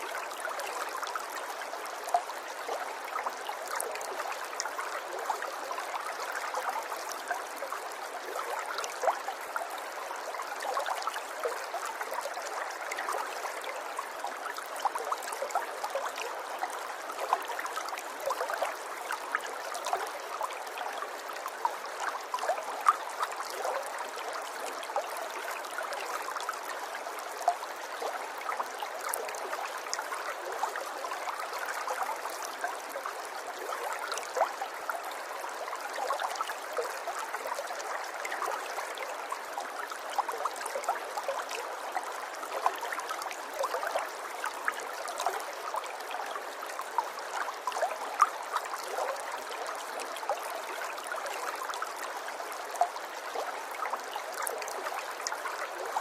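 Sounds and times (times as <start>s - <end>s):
river water babbling: 0.0s - 56.0s.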